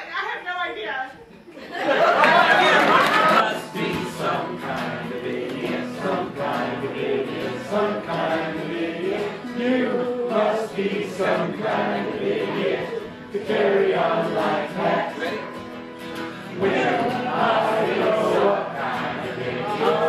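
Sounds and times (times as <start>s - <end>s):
voices singing: 1.7s - 20.0s.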